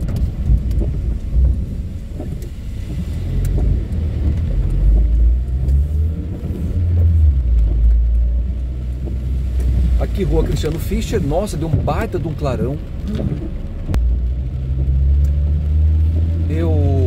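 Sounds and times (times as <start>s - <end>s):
car engine and tyre noise: 0.0s - 17.0s
rain on a car: 0.0s - 17.0s.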